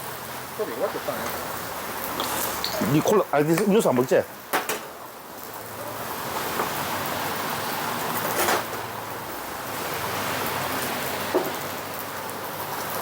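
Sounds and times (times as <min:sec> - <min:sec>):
meat sizzling on a grill: 0:00.0 - 0:13.0
rain: 0:00.0 - 0:13.0.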